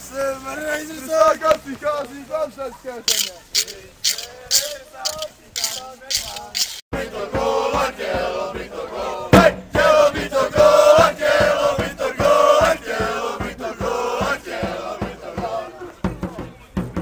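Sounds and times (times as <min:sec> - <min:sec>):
football supporters chanting: 0:00.0 - 0:17.0
drum beating: 0:03.1 - 0:17.0.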